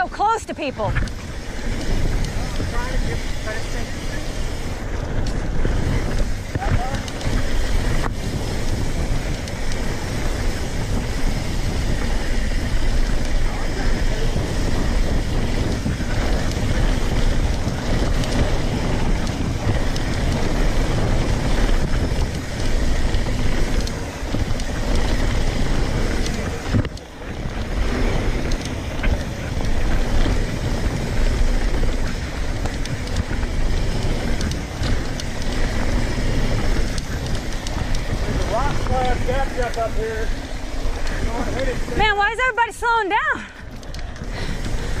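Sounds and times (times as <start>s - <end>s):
bike clicking and rattling: 0.0s - 45.0s
tyres rumbling on dirt: 0.0s - 45.0s
wind buffeting microphone: 0.0s - 45.0s.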